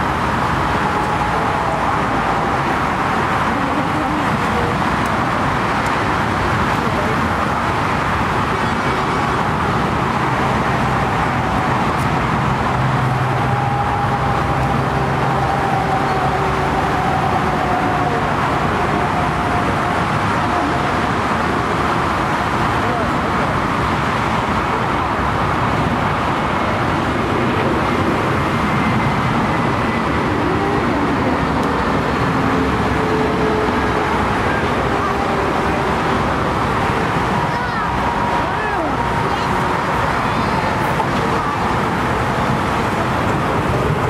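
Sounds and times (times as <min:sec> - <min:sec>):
faint engine whine: 0:00.0 - 0:44.0
jet engines roaring: 0:00.0 - 0:44.0
road traffic noise: 0:00.0 - 0:44.0.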